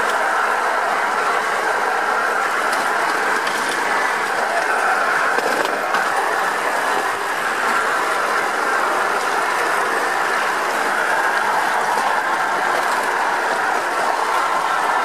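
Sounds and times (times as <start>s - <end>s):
trolley wheels rolling on rails: 0.0s - 15.0s.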